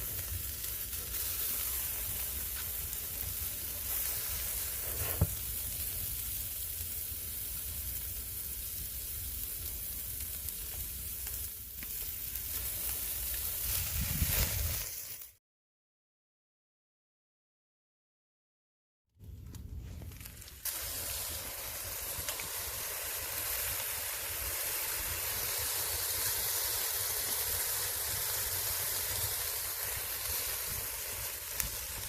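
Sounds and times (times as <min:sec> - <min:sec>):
ribs sizzling on a grill: 0:00.0 - 0:15.4, 0:19.8 - 0:32.0
sharp crack of fire: 0:00.0 - 0:15.4, 0:19.2 - 0:32.0.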